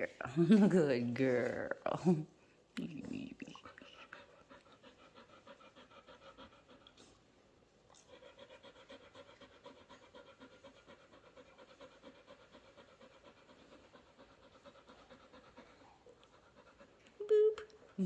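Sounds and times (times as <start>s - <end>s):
puppy panting: 0.0s - 2.2s, 2.8s - 18.0s.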